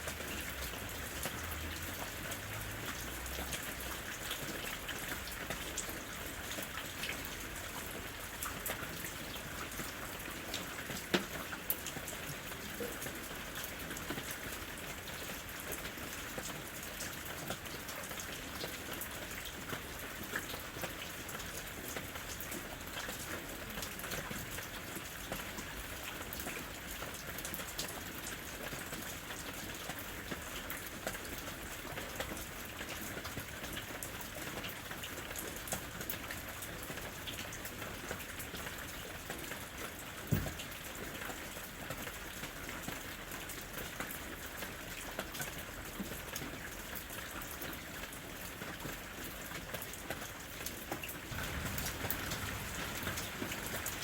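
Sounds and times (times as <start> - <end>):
rain falling in forest: 0.0 - 54.0
raindrops pattering: 0.0 - 54.0.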